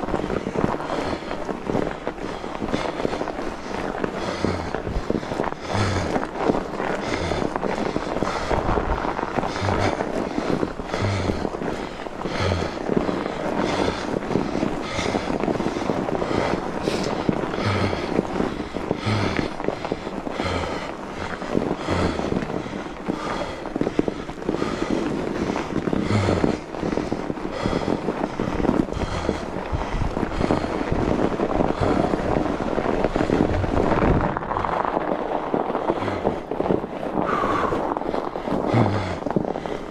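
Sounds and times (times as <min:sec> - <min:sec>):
bike tyres crunching on snow: 0:00.0 - 0:39.9
heavy rhythmic breathing: 0:00.0 - 0:39.9.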